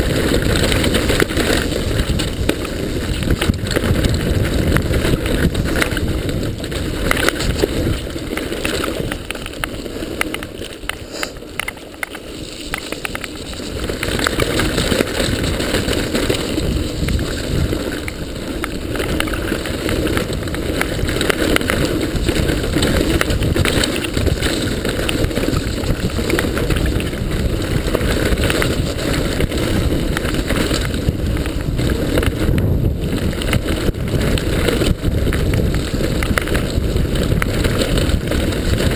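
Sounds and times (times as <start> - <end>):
bike rattling and knocking: 0.0 - 38.9
tyres rumbling over dirt: 0.0 - 38.9
wind buffeting microphone: 0.0 - 38.9.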